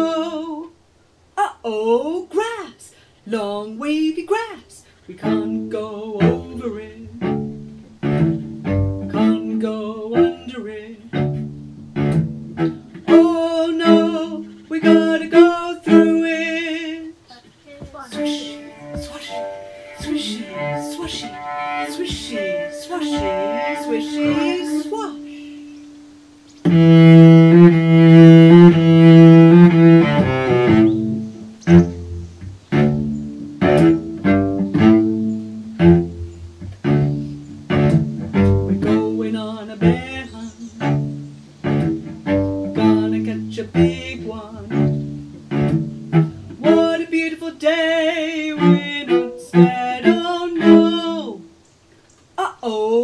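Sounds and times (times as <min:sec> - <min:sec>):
bowed string instrument: 0:00.0 - 0:00.8, 0:03.3 - 0:51.8.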